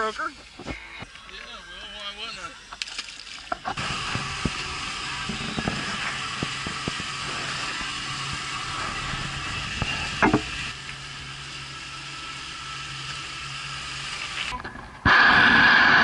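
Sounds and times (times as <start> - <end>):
outboard motor hum: 0.0 - 16.0
wind and water hiss: 2.1 - 16.0.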